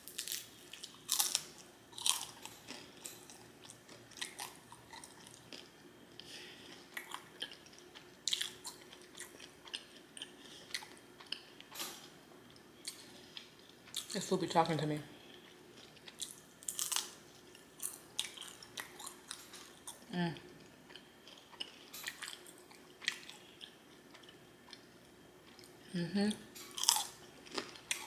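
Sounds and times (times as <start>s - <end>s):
person chewing food: 0.0s - 14.1s, 15.2s - 25.8s, 26.6s - 28.0s.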